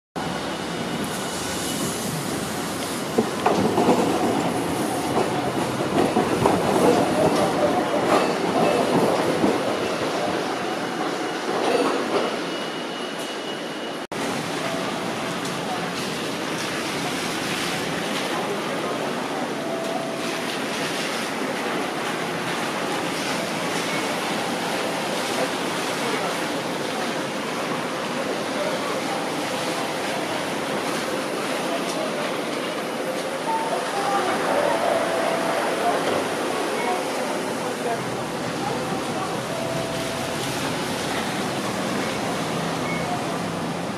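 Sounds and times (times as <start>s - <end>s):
tram rolling on street track: 0.2s - 43.9s.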